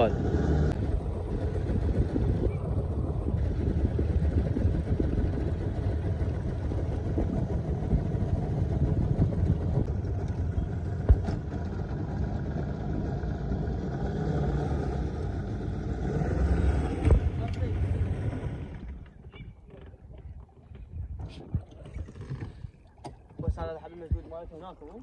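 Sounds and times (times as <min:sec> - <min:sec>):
outboard motor running: 0:00.0 - 0:24.2.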